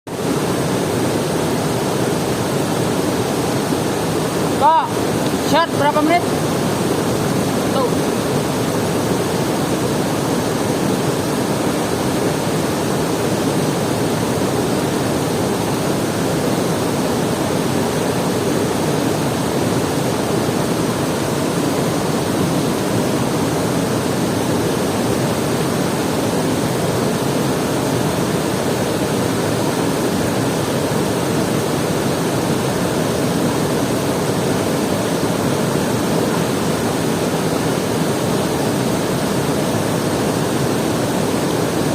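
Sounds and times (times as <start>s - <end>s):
water rushing: 0.1s - 41.9s.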